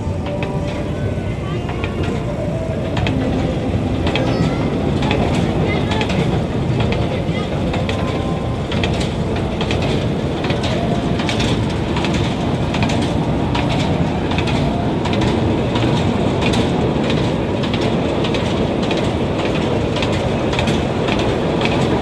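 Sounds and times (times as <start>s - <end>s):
ride wheels rumbling on track: 0.0s - 22.0s
wheels clacking over track joints: 0.0s - 22.0s.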